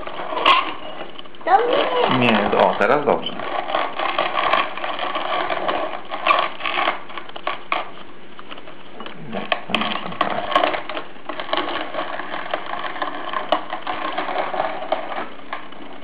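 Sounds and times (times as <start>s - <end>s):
coffee grinder crunching rattle: 0.0s - 16.0s.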